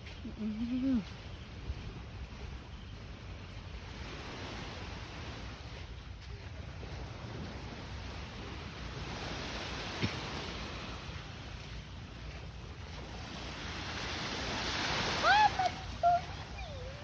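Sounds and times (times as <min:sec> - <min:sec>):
sea waves washing ashore: 0:00.6 - 0:17.0.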